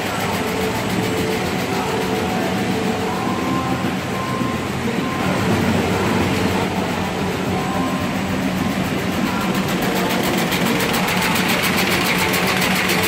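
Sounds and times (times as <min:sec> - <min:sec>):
conveyor and packing machinery: 0:00.0 - 0:13.0
faint held tones: 0:00.0 - 0:13.0.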